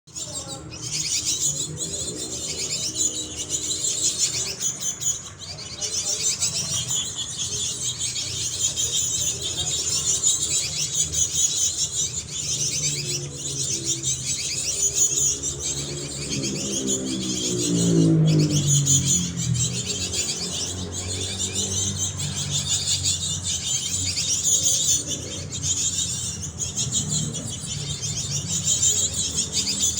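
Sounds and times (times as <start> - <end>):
bird singing rapid chirps: 0.1 - 29.9.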